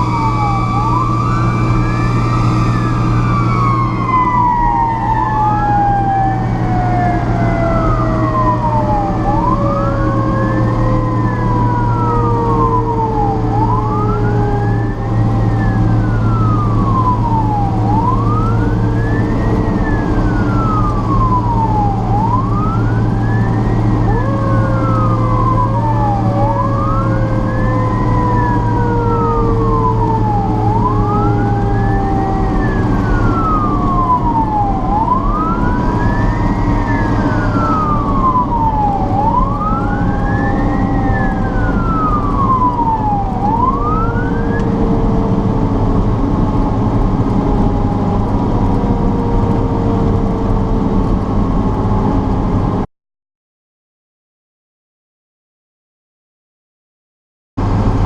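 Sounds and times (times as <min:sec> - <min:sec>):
fire truck siren wailing: 0:00.0 - 0:52.9, 0:57.6 - 0:58.0
truck engine rumbling: 0:00.0 - 0:52.9, 0:57.6 - 0:58.0.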